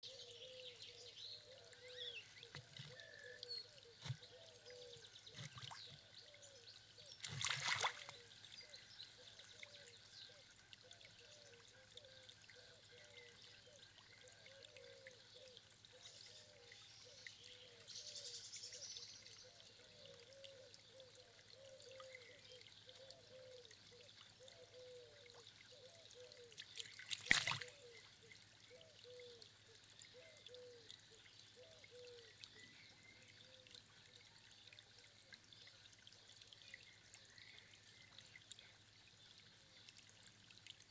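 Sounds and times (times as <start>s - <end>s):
faint trickle of running water: 0.0s - 40.9s.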